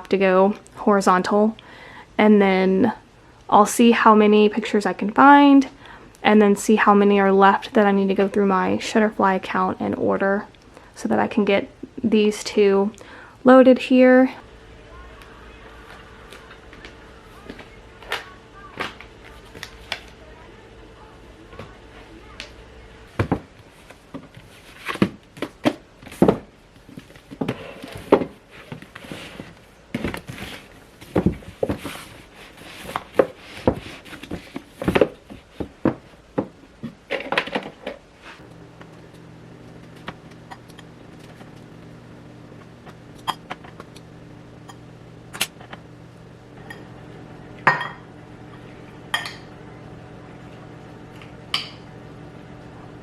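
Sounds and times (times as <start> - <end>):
steady low hum: 0.0 - 36.8, 38.1 - 53.0.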